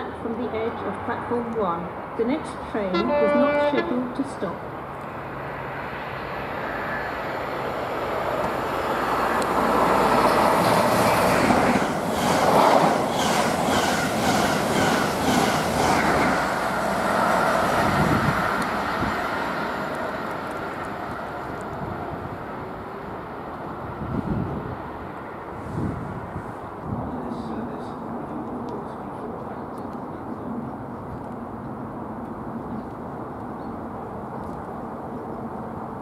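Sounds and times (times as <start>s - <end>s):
diesel train passing at speed: 0.0s - 29.5s, 30.2s - 36.0s.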